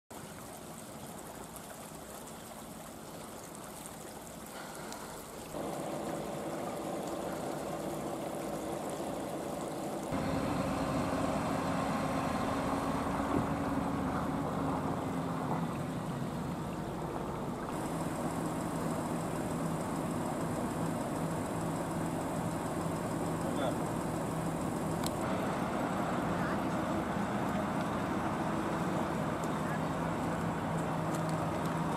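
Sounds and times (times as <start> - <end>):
diesel truck engines droning: 5.6 - 31.9.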